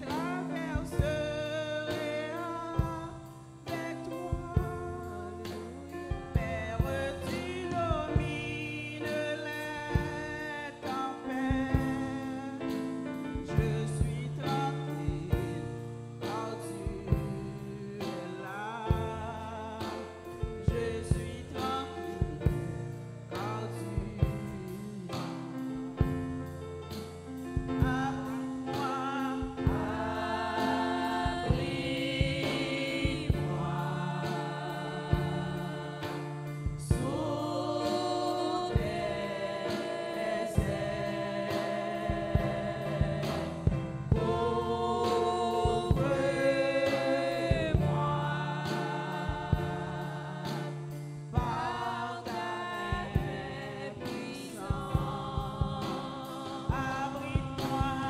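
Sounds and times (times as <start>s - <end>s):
instrumental backing: 0.0s - 58.0s
steady drum beat: 0.0s - 58.0s
women singing gospel: 0.0s - 58.0s.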